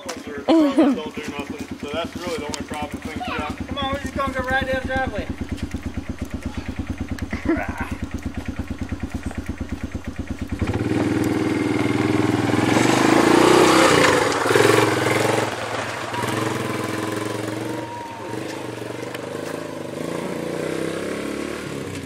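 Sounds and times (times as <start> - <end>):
atv engine idling and revving: 0.0 - 22.0.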